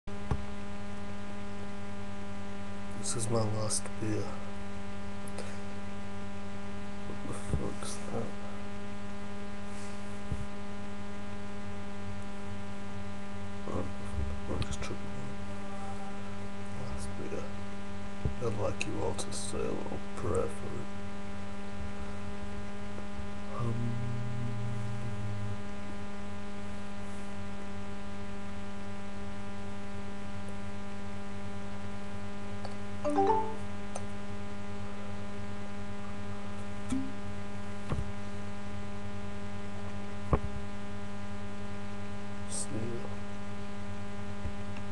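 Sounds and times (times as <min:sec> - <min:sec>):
steady electrical hum: 0:00.1 - 0:44.9.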